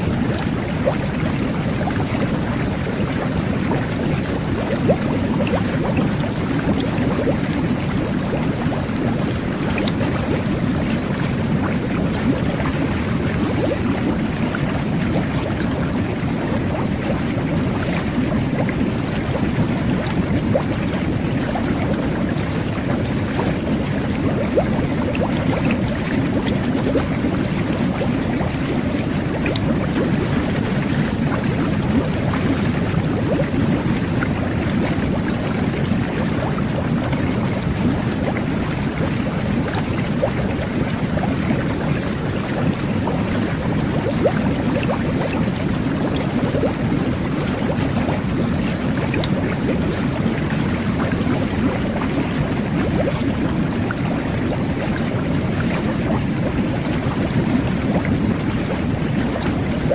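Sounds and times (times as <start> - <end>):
bath water jets churning: 0.0 - 59.9.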